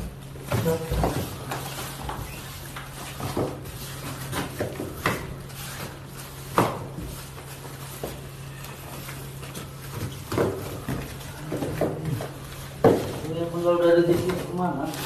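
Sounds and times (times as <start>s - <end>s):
rustling plastic: 0.1s - 15.0s.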